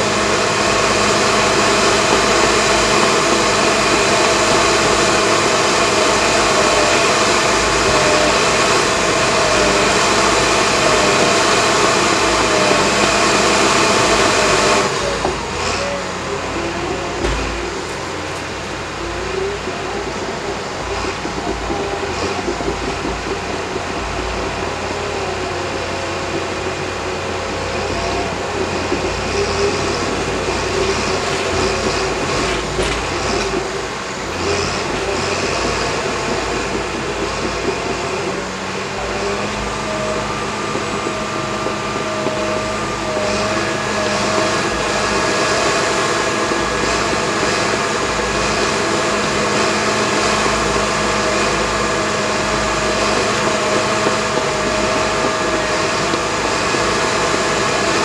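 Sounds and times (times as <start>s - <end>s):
diesel engine under load: 0.0s - 58.0s
steel tracks clattering: 0.0s - 58.0s.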